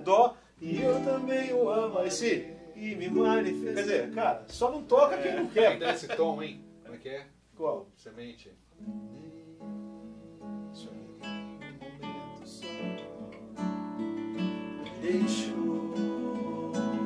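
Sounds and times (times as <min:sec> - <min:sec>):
acoustic guitar chords: 0:00.6 - 0:06.9, 0:08.7 - 0:17.0.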